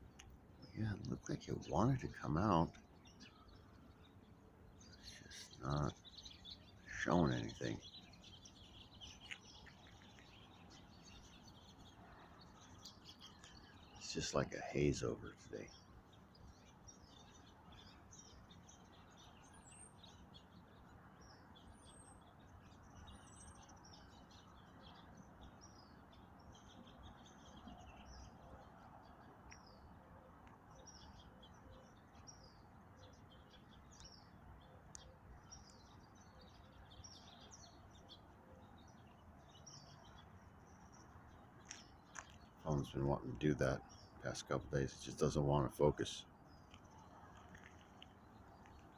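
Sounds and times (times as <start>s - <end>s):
outdoor background hiss: 0.0s - 48.9s
songbirds chirping: 0.0s - 48.9s.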